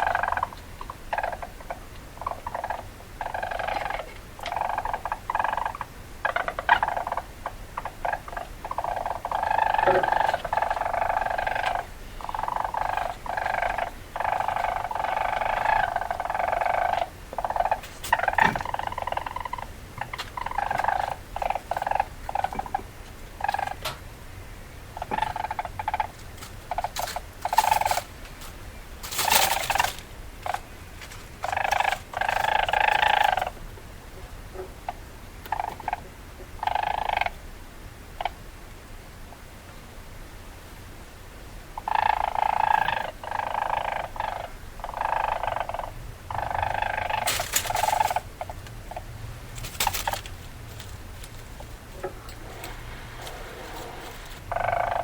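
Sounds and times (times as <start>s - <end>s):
weasel chattering: 0.0s - 23.9s, 25.0s - 28.1s, 29.0s - 30.7s, 31.4s - 33.6s, 36.6s - 37.3s, 41.8s - 55.0s.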